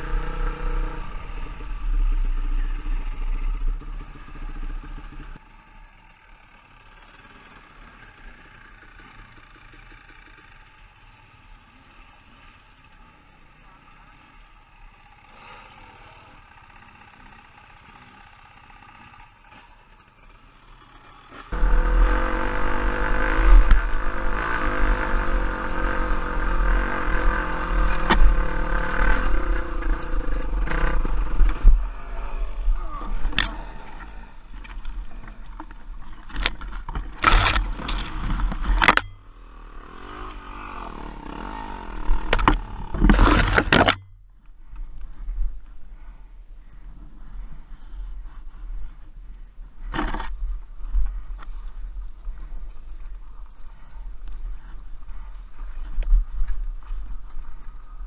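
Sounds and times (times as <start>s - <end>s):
trail bike engine rumbling: 0.0s - 58.0s.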